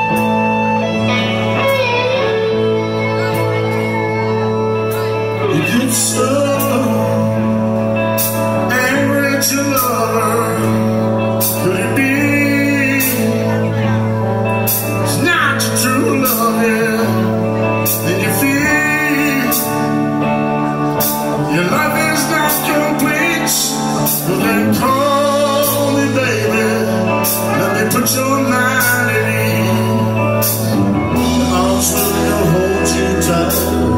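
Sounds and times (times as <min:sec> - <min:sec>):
electric guitar lead line: 0:00.0 - 0:33.9
low bass notes: 0:00.0 - 0:33.9.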